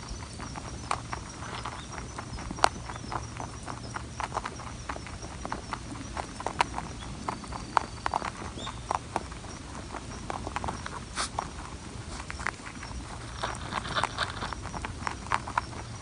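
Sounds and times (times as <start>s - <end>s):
rabbit chewing crunchily: 0.0s - 16.0s.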